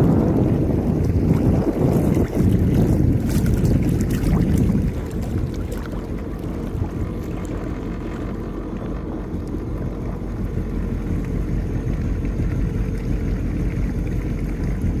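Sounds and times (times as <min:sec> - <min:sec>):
jet ski running on water: 0:00.0 - 0:15.0.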